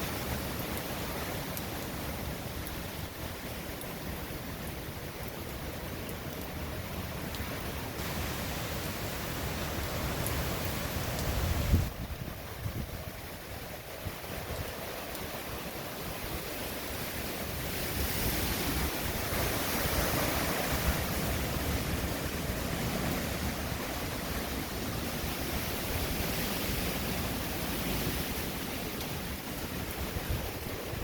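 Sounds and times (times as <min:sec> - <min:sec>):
hurricane winds blowing hard: 0:00.0 - 0:31.0.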